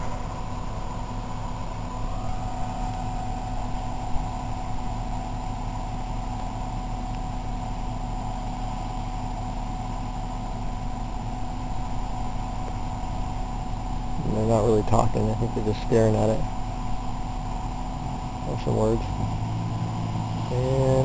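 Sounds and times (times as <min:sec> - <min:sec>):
truck engines idling: 0:00.0 - 0:21.0.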